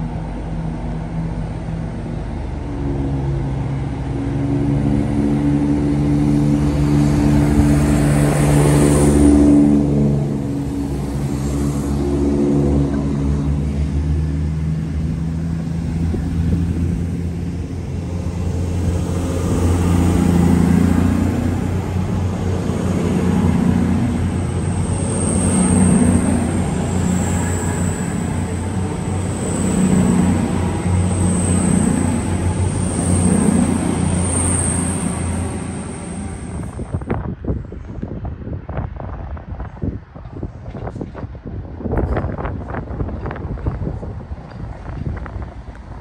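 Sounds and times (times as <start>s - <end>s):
diesel train engine droning: 0.0s - 38.1s.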